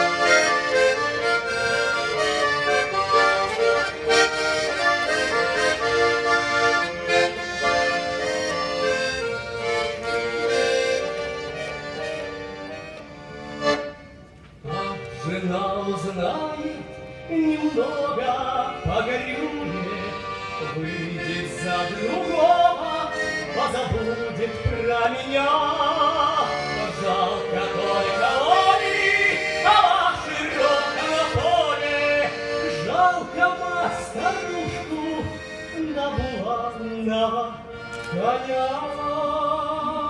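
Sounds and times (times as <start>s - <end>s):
accordion playing: 0.0s - 40.0s.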